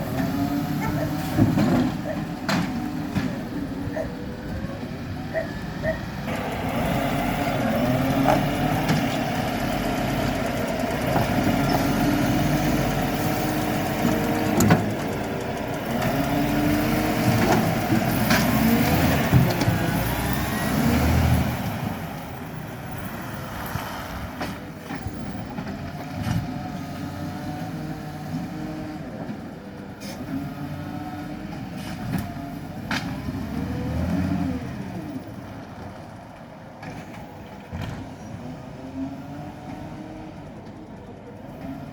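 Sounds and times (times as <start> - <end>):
garbage truck engine: 0.0 - 41.9.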